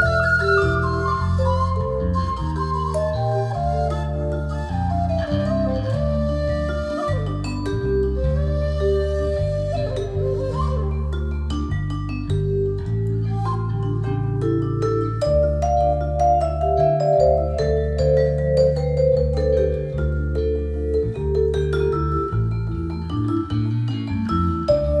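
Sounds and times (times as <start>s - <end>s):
mallet percussion melody: 0.0s - 25.0s
sustained bass notes: 0.0s - 25.0s.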